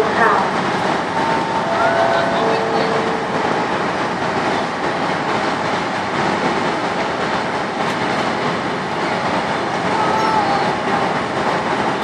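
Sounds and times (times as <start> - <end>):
diesel train engine and wheels: 0.0 - 12.0.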